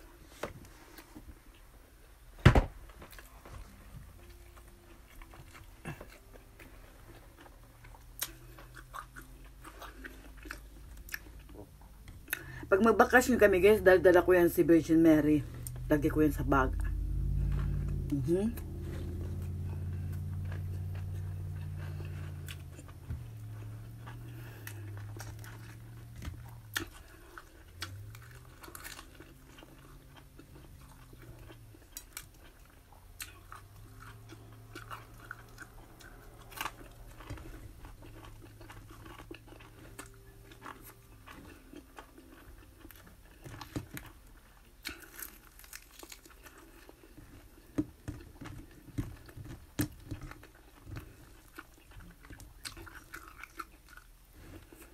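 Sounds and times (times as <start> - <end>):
person chewing and crunching food: 0.0 - 54.9
low hum: 2.3 - 52.7.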